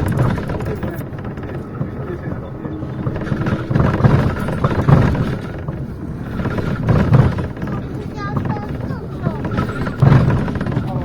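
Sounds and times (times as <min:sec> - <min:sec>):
bus engine and road rumble: 0:00.0 - 0:11.0
indistinct passenger voices: 0:00.0 - 0:11.0.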